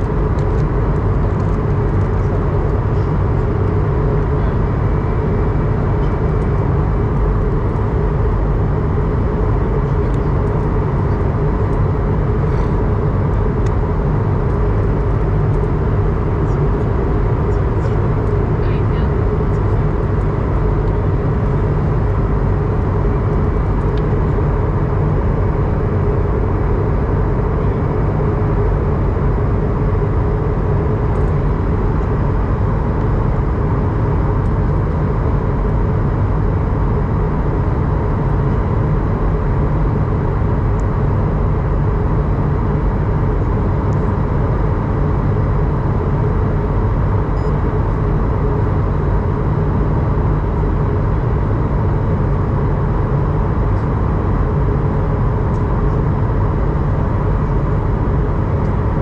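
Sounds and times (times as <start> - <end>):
airliner engine and airflow rumble: 0.0 - 59.0
faint steady hum: 0.0 - 59.0.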